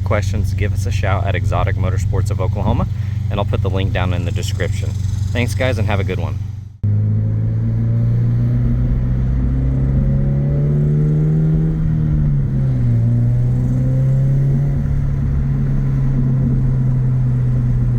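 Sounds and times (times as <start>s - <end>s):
car engine and exhaust running: 0.0s - 17.9s.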